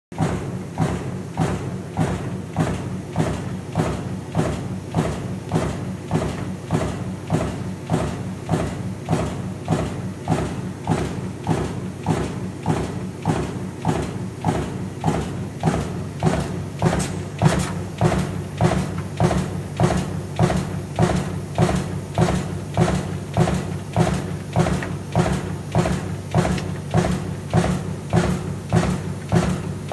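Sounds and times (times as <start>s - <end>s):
press stamping metal: 0.2s - 29.9s.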